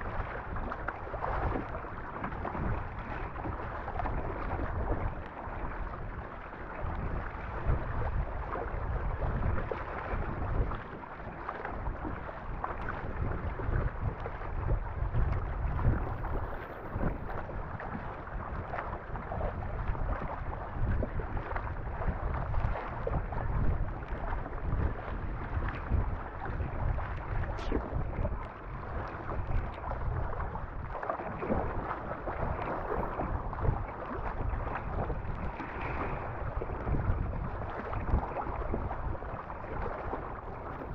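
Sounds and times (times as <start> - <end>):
water rushing along a hull: 0.0 - 40.9
wind buffeting microphone: 0.0 - 40.9
paddle strokes splashing: 0.1 - 40.9.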